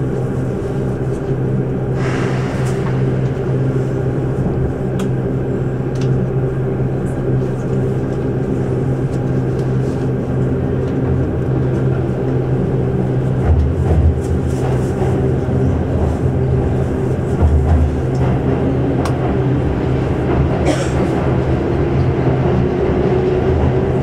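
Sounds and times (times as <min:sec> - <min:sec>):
electric train humming and rumbling: 0:00.0 - 0:24.0.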